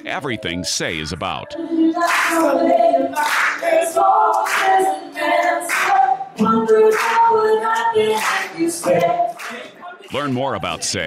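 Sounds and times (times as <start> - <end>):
woman and man singing a cappella: 0.3 - 10.0.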